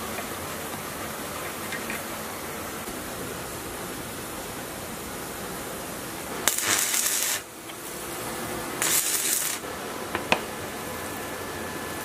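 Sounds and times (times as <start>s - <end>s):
welding arc crackling and hissing: 0.0s - 12.0s.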